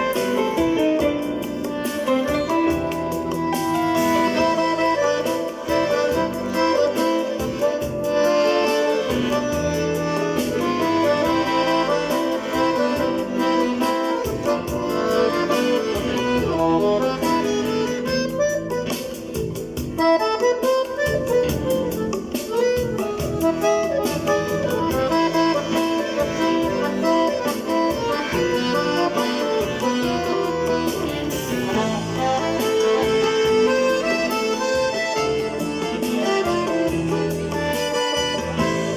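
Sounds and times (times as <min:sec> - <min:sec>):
accordion playing quick melody: 0:00.0 - 0:38.9
electronic accompaniment: 0:00.0 - 0:38.9
steady percussive beat: 0:00.0 - 0:38.9.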